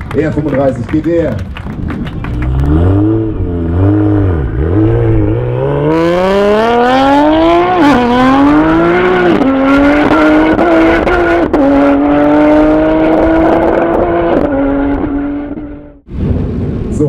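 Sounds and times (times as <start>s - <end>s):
car engine accelerating hard: 2.2s - 16.0s.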